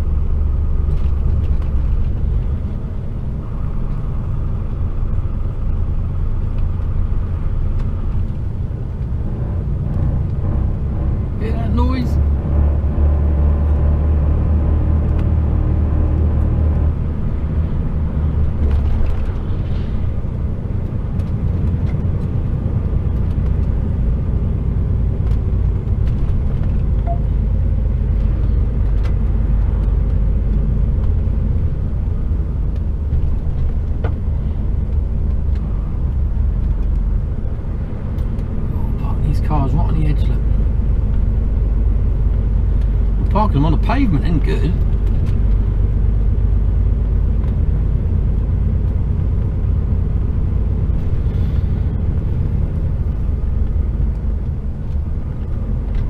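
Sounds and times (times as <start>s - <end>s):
diesel engine drone: 0.0s - 56.0s
road rumble: 0.0s - 56.0s.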